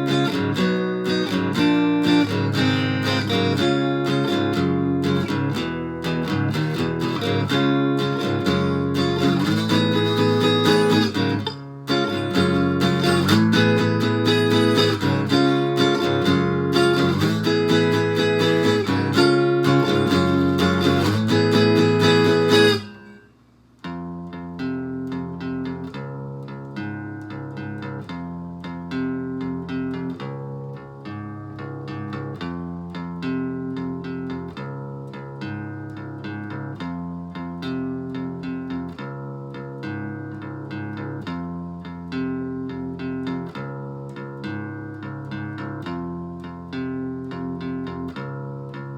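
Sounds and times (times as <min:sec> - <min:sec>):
distorted guitar strummed chords: 0:00.0 - 0:48.9
guitar picked single notes: 0:00.0 - 0:48.9.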